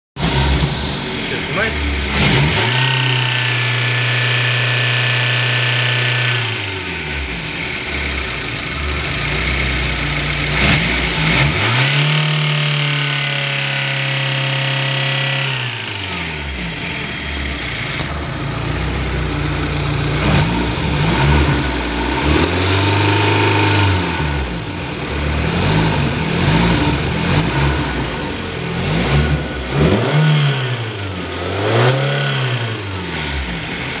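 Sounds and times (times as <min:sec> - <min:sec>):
car engine idling and revving: 0:00.2 - 0:34.0.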